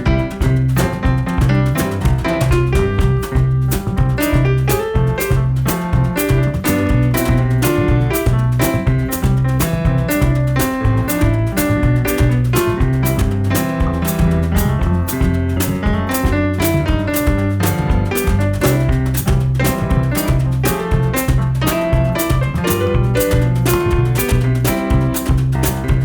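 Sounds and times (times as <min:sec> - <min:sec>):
bass: 0:00.0 - 0:26.0
drum kit: 0:00.0 - 0:26.0
jazz piano: 0:00.0 - 0:26.0.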